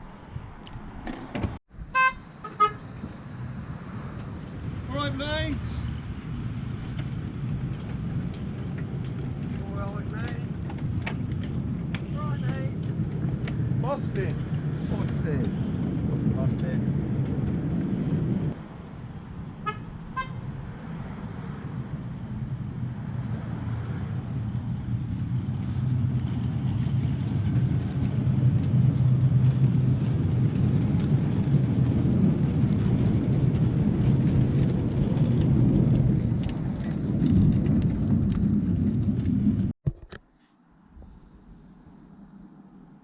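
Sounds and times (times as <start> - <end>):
train wheels rumbling on rails: 4.1 - 39.7.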